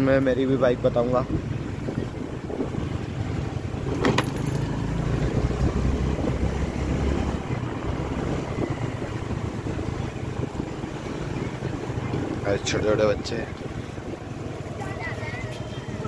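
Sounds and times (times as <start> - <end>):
wind buffeting microphone: 0.8 - 16.0.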